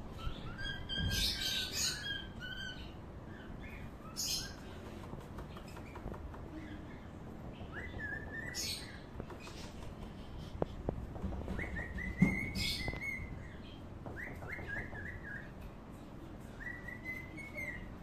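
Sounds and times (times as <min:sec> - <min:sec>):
bird peeping: 0:00.1 - 0:10.6, 0:11.4 - 0:15.6, 0:16.6 - 0:18.0.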